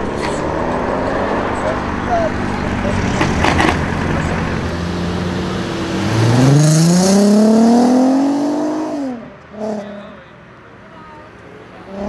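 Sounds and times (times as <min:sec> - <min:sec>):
car engine accelerating: 0:00.0 - 0:10.4, 0:11.3 - 0:12.0.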